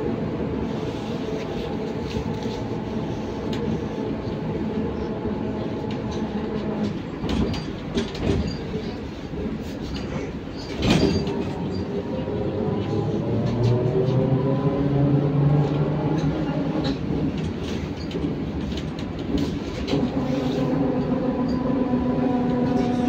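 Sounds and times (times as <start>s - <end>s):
trolleybus interior rumble: 0.0s - 23.0s.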